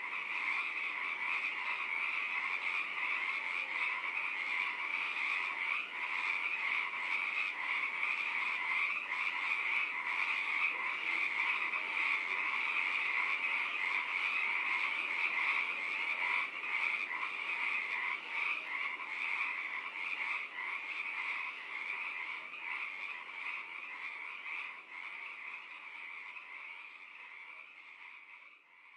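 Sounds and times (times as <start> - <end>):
chorus of pulsed animal calls: 0.0 - 28.5.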